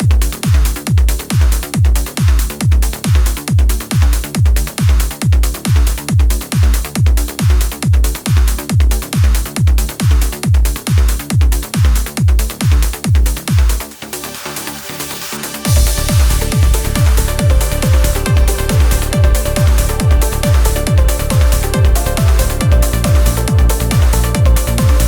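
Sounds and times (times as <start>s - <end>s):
kick drum: 0.0s - 14.6s, 15.6s - 25.0s
electronic dance music: 0.0s - 25.0s.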